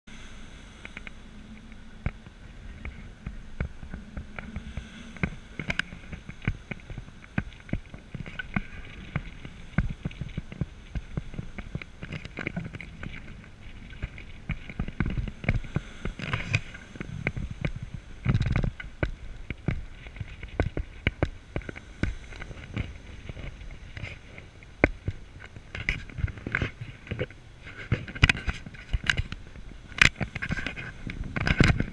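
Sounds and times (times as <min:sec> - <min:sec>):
faint steady whine: 0:00.1 - 0:31.9
wind buffeting microphone: 0:00.1 - 0:31.9.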